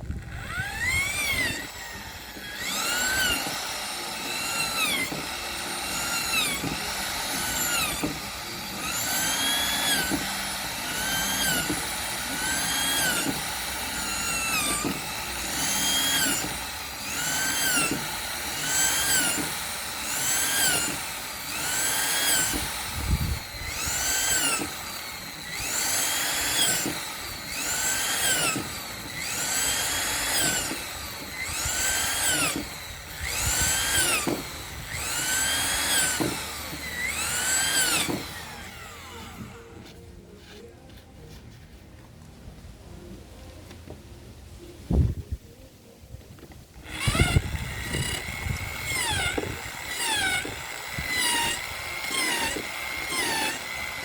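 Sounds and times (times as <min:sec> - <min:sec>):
electric drill whining in pulses: 0:00.0 - 0:39.9, 0:46.8 - 0:54.0.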